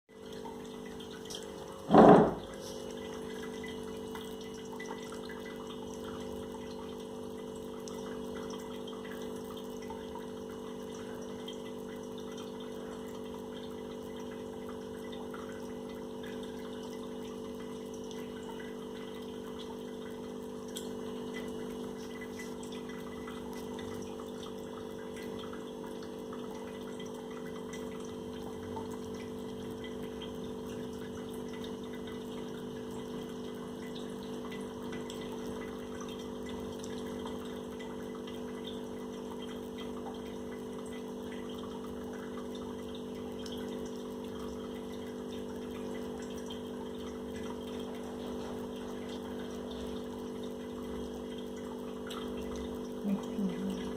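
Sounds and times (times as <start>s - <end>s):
steady mechanical hum: 0.1s - 53.9s.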